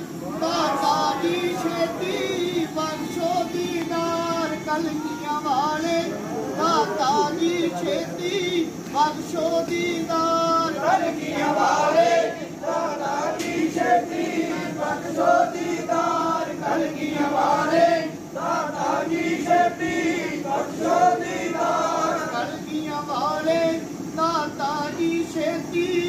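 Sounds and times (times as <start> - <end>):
group singing chant in unison: 0.0 - 4.5, 5.7 - 26.0.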